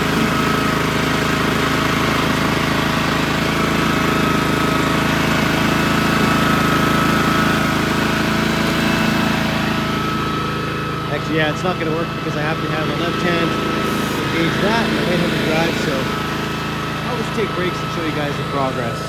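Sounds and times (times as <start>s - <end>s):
brush mower engine running: 0.0s - 19.0s.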